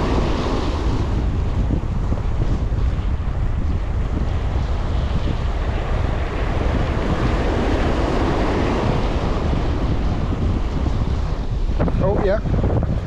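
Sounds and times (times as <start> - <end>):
sea surf washing against rocks: 0.0 - 13.0
wind buffeting microphone: 0.0 - 13.0.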